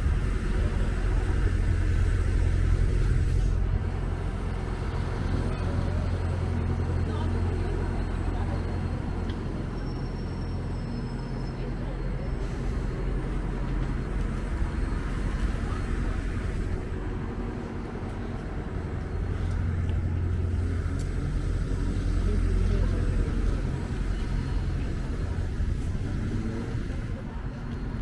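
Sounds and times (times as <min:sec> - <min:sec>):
bus engine hum: 0:00.0 - 0:28.0
faint voices of passers-by: 0:00.0 - 0:28.0.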